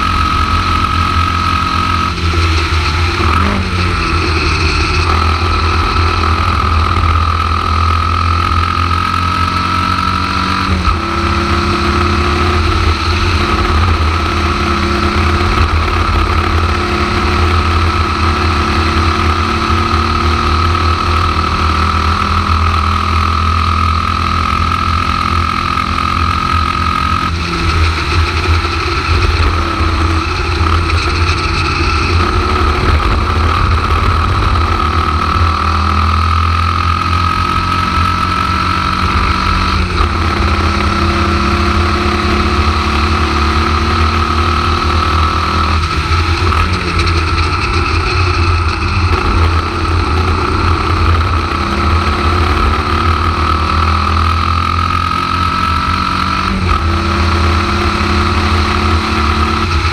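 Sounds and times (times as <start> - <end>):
racing car engine at full throttle: 0.0 - 59.9.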